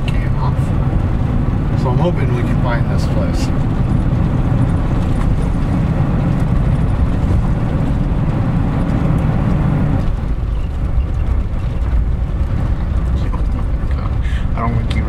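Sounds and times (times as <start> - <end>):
tyre and road rumble in cabin: 0.0 - 15.0.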